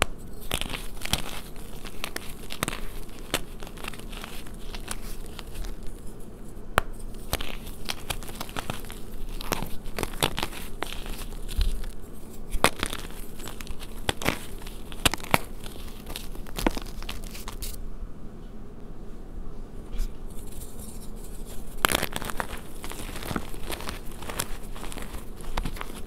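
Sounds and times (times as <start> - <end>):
chalk crunching and snapping: 0.0 - 17.8, 20.0 - 26.0.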